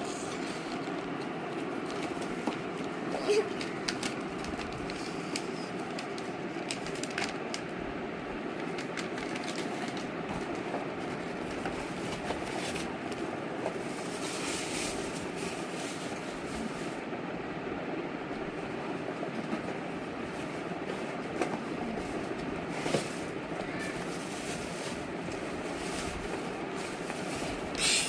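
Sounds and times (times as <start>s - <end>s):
popcorn machine whirring: 0.0s - 28.0s.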